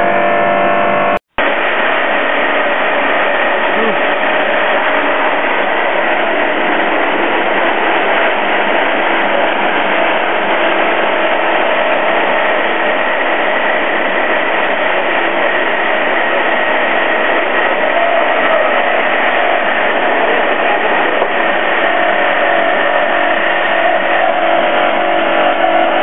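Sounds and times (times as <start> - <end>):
high whine: 0.0 - 26.0
machinery droning: 0.0 - 26.0.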